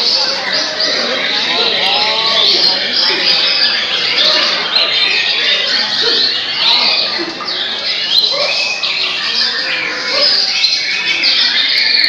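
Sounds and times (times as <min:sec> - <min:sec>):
many songbirds singing: 0:00.0 - 0:12.0.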